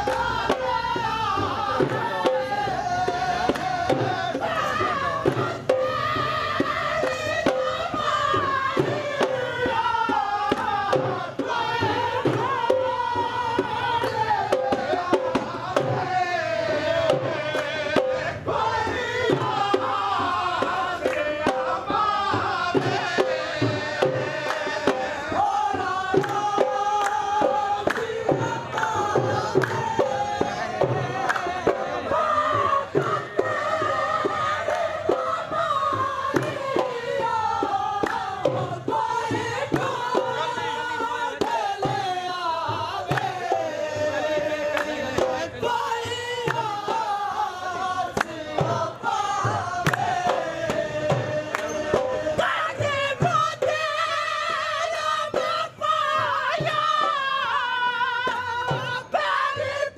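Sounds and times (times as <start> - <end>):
hand drum percussion: 0.0 - 59.9
person singing folk song: 0.0 - 59.9.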